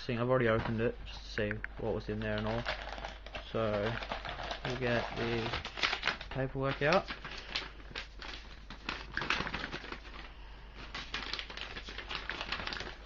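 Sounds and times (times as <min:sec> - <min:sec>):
paper rustling and crinkling: 0:02.1 - 0:13.0.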